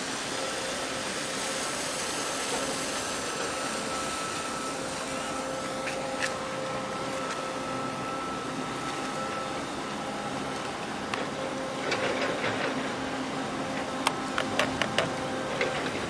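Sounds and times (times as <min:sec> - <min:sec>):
ship machinery humming: 0:00.0 - 0:16.0.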